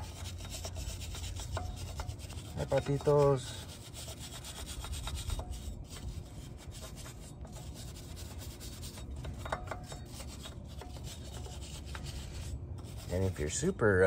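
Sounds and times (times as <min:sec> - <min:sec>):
wire brush scraping metal: 0:00.0 - 0:14.0.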